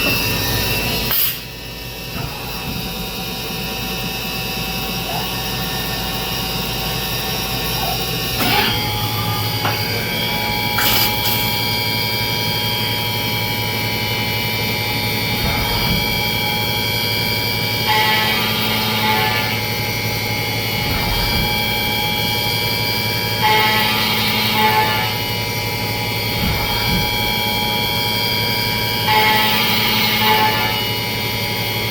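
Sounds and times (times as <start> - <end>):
milling machine spindle whine: 0.0 - 31.9.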